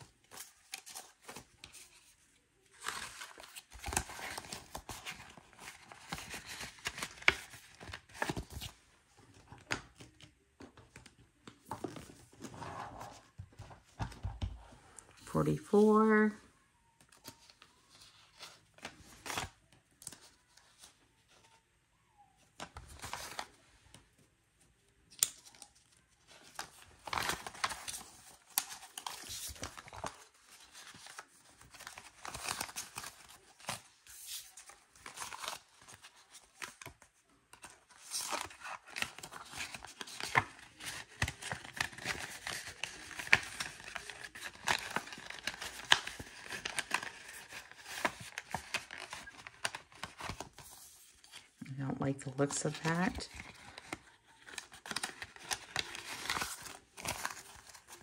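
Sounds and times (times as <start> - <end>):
paper rustling and crinkling: 0.0 - 14.8, 22.4 - 24.2, 25.1 - 51.6, 52.2 - 58.0.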